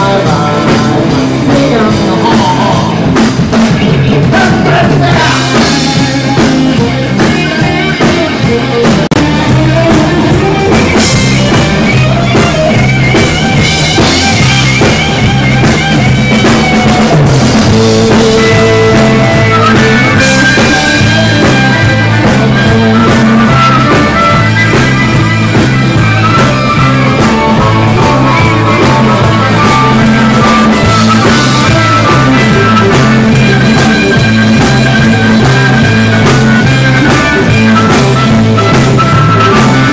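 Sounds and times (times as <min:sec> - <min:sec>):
blues-rock band playing: 0:00.0 - 0:39.9
harmonica wavering notes: 0:05.1 - 0:39.9.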